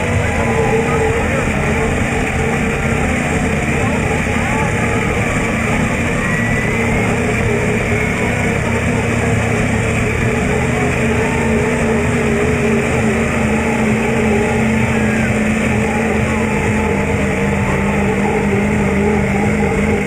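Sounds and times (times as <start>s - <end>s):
dense background din: 0.0s - 20.0s
truck engines running: 0.0s - 20.0s.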